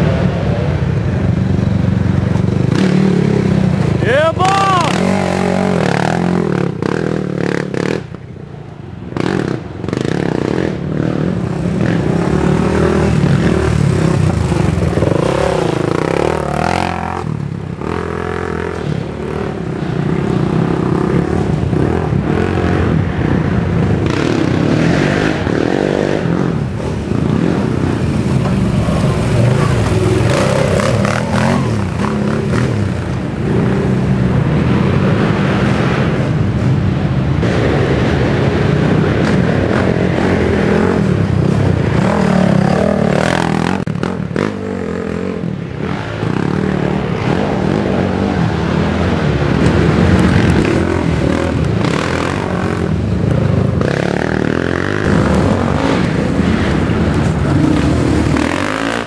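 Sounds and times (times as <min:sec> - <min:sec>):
quad engines revving: 0:00.0 - 0:08.2, 0:09.0 - 0:59.0.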